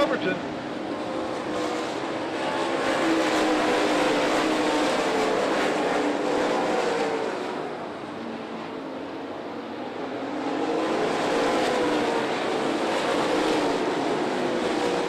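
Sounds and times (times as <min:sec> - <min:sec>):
race car engines racing: 0:00.0 - 0:15.0.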